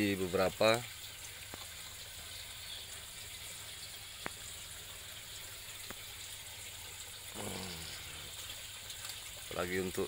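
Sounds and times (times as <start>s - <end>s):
faint running water: 0.0s - 10.0s.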